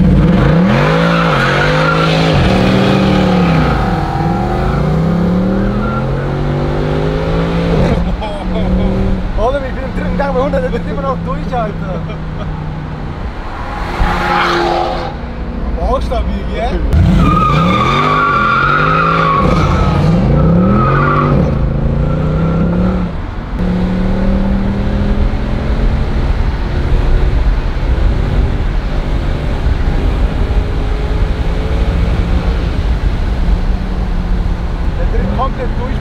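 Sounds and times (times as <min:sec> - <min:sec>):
car engine at full throttle: 0:00.0 - 0:36.0.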